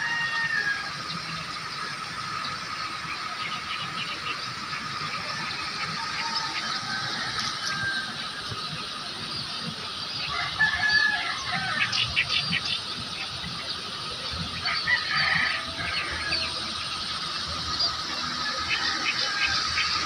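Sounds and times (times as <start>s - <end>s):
birds chirping: 0.0s - 20.0s
faint outdoor background: 0.0s - 20.0s.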